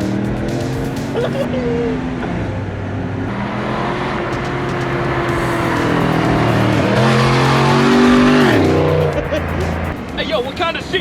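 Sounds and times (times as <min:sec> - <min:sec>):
vee eight engine exhaust: 0:00.0 - 0:01.5, 0:03.2 - 0:11.0.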